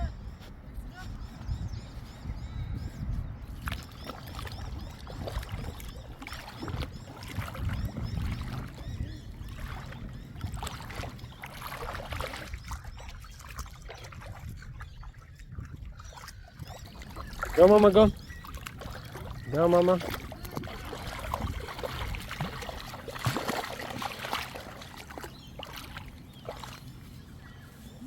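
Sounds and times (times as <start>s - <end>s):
water splashing from swimming: 3.6s - 27.2s.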